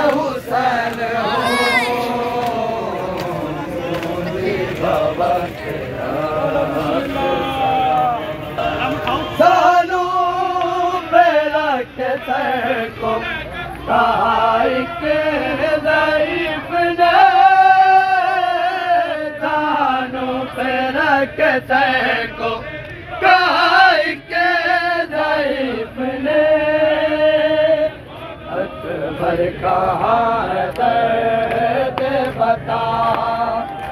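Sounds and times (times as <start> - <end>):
men chanting a lament: 0.0 - 33.9.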